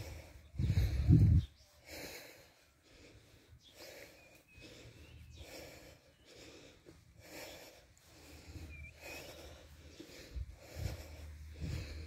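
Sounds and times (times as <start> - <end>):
heavy breathing: 0.0 - 12.0.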